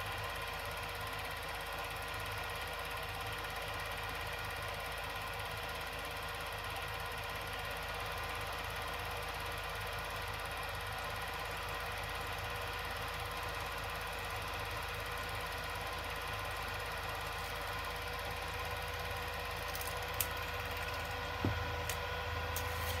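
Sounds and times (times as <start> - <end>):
small machine whirring and rattling: 0.0 - 23.0.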